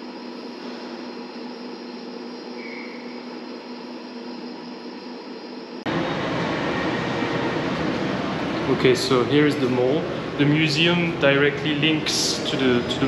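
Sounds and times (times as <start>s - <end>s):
indoor room hum with held tones: 0.0s - 13.0s.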